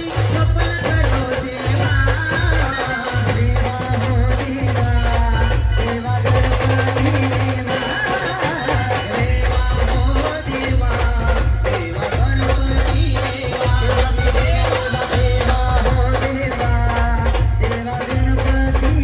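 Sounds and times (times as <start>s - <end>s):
live band playing devotional song: 0.0s - 19.0s.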